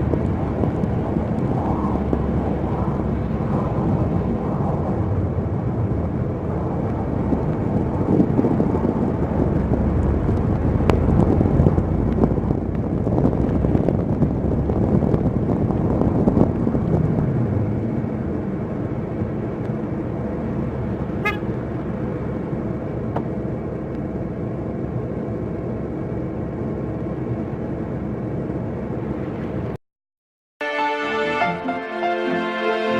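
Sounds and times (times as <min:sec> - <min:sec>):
car road and engine noise: 0:00.0 - 0:29.8.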